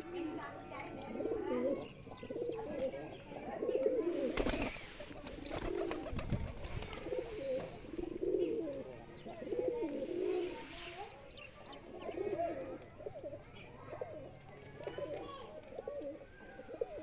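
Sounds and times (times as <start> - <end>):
pigeons cooing: 1.0 - 11.2, 11.8 - 17.0.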